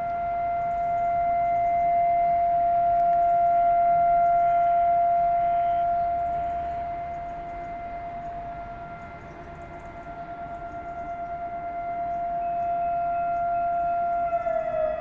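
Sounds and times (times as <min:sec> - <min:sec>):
civil defence siren steady tone: 0:00.0 - 0:15.0.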